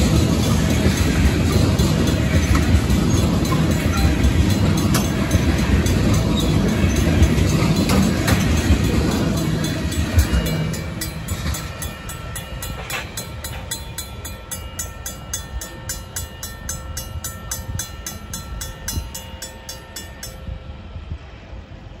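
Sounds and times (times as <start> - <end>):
crossing bell ringing: 0.0 - 21.1
freight train rumbling and clacking: 0.0 - 22.0.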